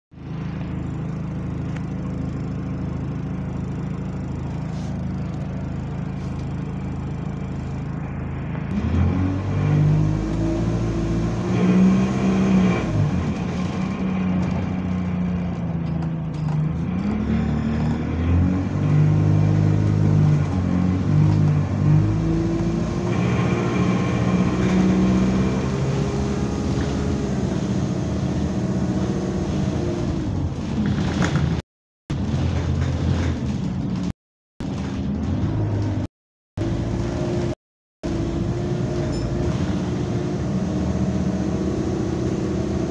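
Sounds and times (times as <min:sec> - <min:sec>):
bus diesel engine: 0:00.1 - 0:42.9.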